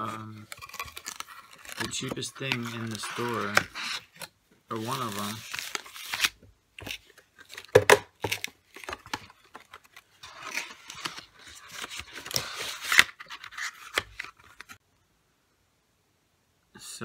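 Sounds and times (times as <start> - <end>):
cardboard scraping and rubbing: 0.0 - 14.8.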